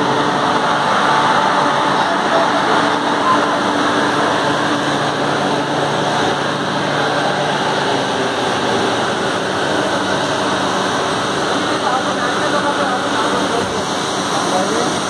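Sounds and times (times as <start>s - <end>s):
continuous workshop noise: 0.0s - 15.0s.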